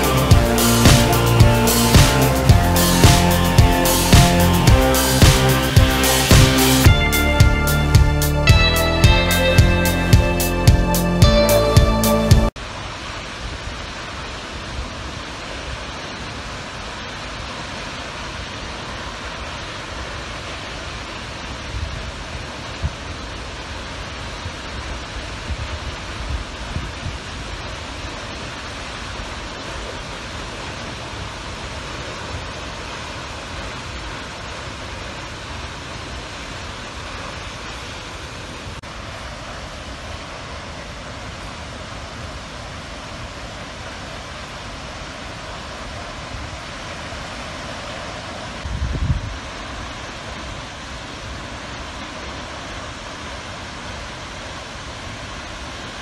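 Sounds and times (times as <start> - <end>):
waterfall rushing: 0.0 - 48.7, 49.3 - 56.0.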